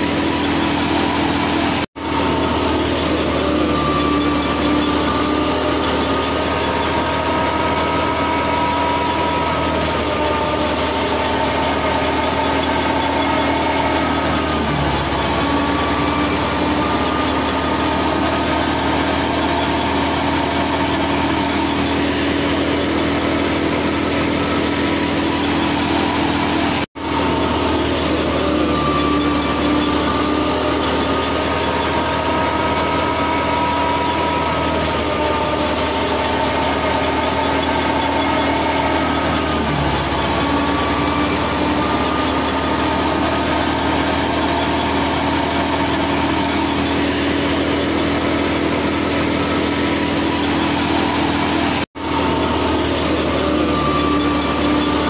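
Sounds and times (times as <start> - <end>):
small motor humming whine: 0.0 - 55.0.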